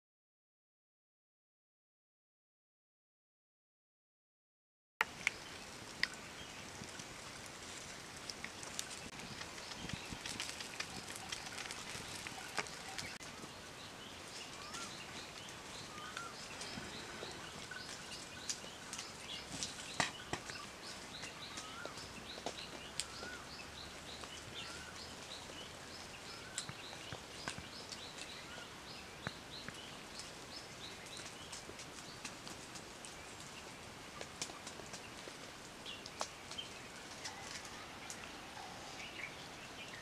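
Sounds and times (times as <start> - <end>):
background hiss: 5.0 - 40.0
birds chirping: 5.0 - 40.0.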